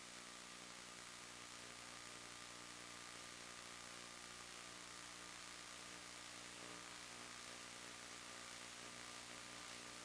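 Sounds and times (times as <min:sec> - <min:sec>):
low electrical hum: 0:00.0 - 0:10.0
static hiss: 0:00.0 - 0:10.0.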